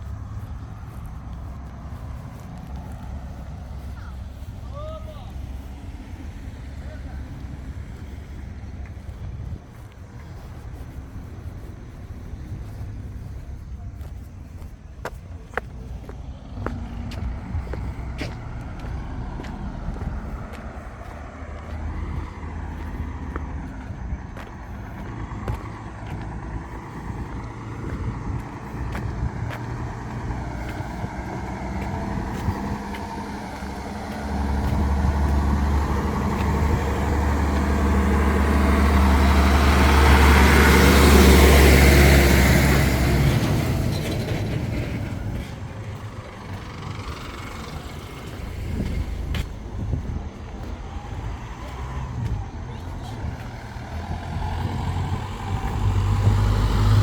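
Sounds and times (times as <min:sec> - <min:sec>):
heavy vehicle driving past: 0:00.0 - 0:57.0
low engine hum: 0:00.0 - 0:57.0
street noise: 0:00.0 - 0:57.0.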